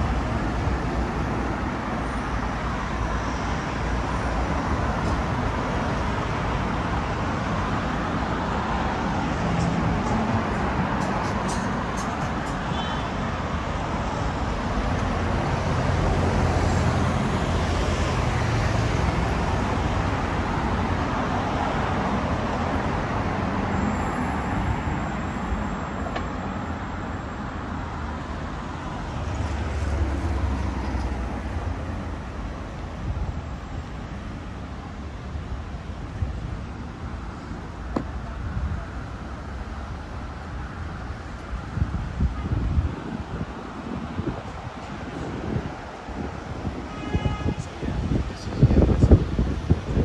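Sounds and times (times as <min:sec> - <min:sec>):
low engine rumble of passing vehicles: 0:00.0 - 0:50.0
tyre and engine noise: 0:00.0 - 0:50.0.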